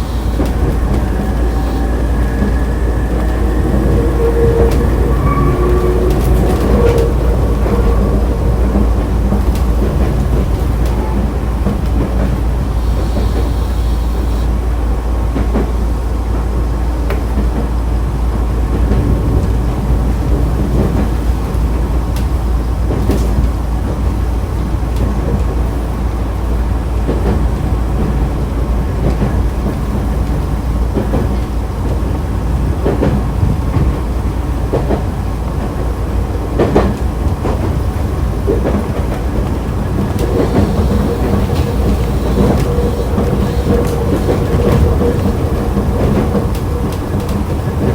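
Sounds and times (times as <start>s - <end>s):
rail joint clacks: 0.0s - 14.6s, 15.2s - 47.9s
train wheels rumbling on rails: 0.0s - 47.9s.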